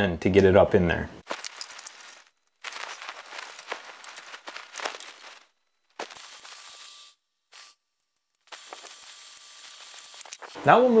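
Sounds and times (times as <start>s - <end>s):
electrical wire rustling: 1.2s - 10.6s.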